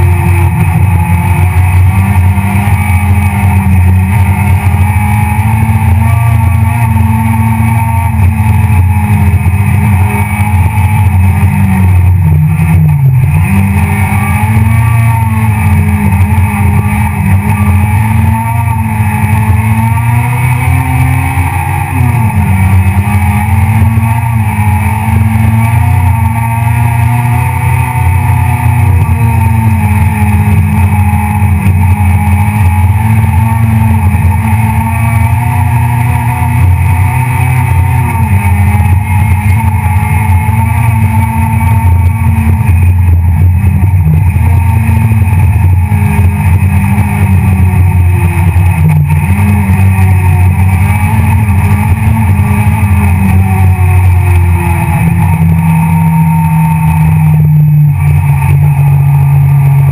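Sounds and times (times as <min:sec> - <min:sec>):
rally car engine revving high: 0:00.0 - 0:59.9.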